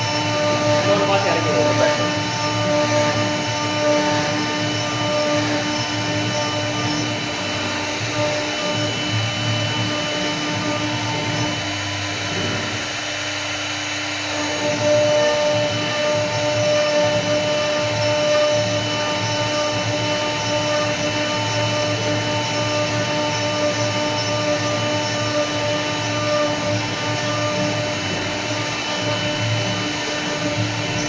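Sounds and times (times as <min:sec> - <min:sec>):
wood router spindle whine: 0:00.0 - 0:31.0.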